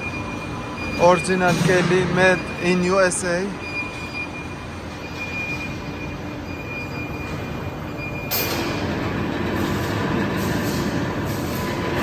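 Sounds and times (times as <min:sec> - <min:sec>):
workshop machinery with high whine: 0:00.0 - 0:12.0.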